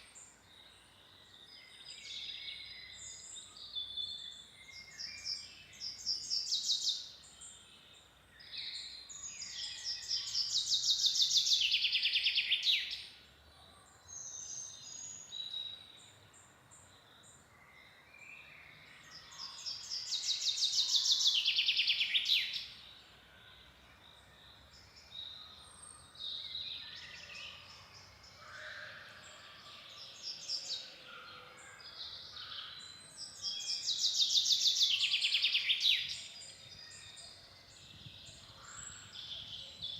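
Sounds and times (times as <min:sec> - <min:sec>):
soft bird chirps and calls: 0:00.0 - 0:13.2, 0:13.9 - 0:39.9.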